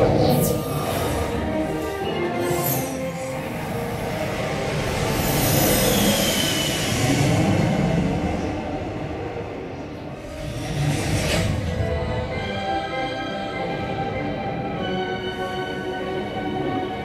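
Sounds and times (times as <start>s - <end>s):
heavy rumble and rushing noise: 0.0s - 15.5s.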